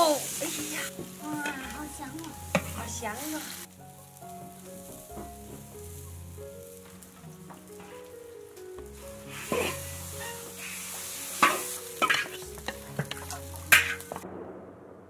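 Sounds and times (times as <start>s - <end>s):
soft instrumental music: 0.0s - 14.2s
food sizzling: 0.0s - 14.3s.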